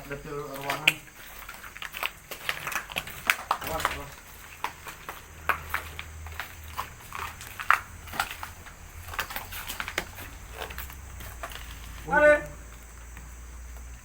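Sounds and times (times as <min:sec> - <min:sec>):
footsteps crunching over debris: 0:00.0 - 0:14.0.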